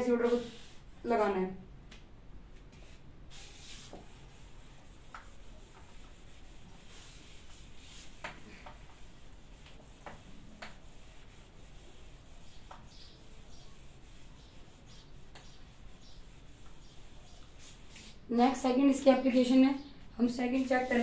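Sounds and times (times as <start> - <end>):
eraser rubbing whiteboard: 0.0 - 1.3, 2.7 - 18.2, 20.3 - 21.0.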